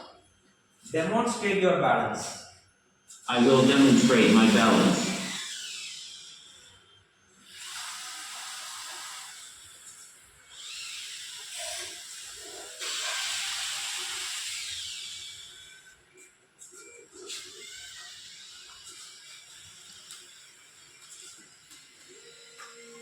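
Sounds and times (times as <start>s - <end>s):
servo motors whirring: 3.1s - 6.8s, 7.4s - 23.0s.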